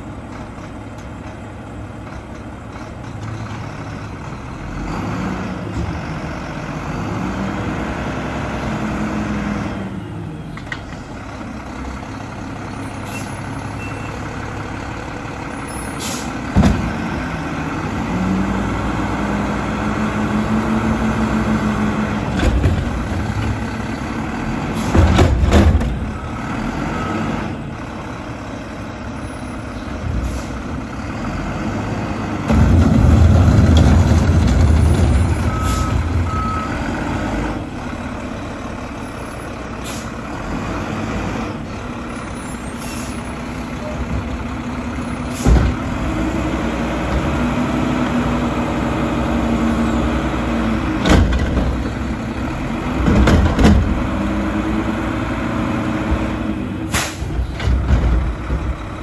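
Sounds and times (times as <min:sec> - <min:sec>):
garbage truck engine revving: 0:03.6 - 0:10.0, 0:14.3 - 0:59.0.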